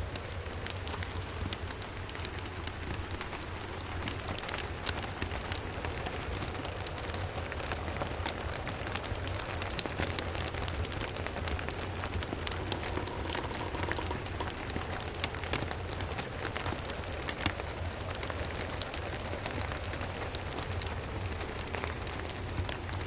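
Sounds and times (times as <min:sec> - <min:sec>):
constant low rumble: 0:00.0 - 0:23.0
steady rain: 0:00.0 - 0:23.0
wood fire crackling: 0:00.0 - 0:23.0.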